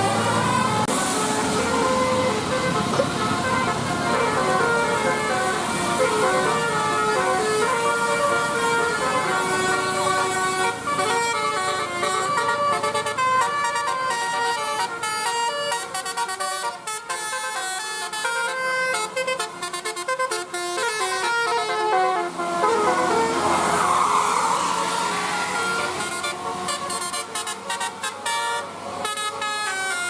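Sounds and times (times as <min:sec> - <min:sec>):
bus horn playing melody: 0:00.0 - 0:30.0.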